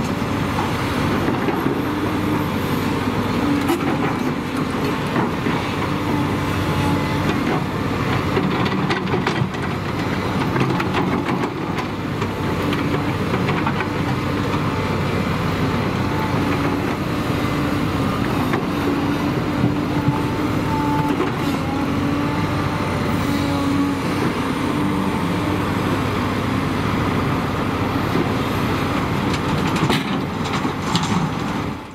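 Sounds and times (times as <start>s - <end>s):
excavator diesel engine under load: 0.0s - 31.9s.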